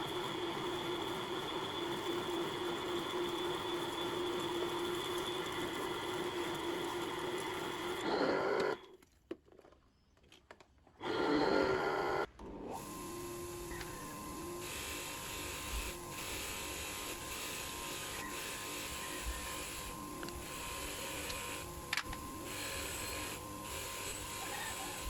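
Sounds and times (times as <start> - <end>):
small electric motor tool whine: 0.0 - 9.0, 11.0 - 25.0.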